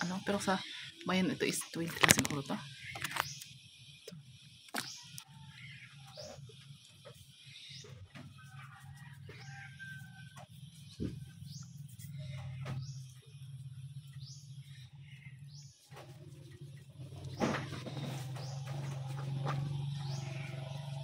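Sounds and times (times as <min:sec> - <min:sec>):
faint bird chirps: 0:00.0 - 0:21.0
steady low hum: 0:00.0 - 0:21.0.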